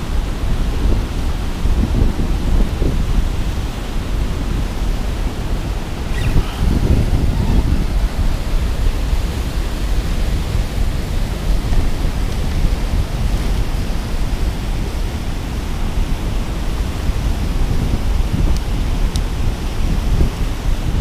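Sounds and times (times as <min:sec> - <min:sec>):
churning foaming water: 0:00.0 - 0:21.0
wind rumbling on microphone: 0:00.0 - 0:21.0.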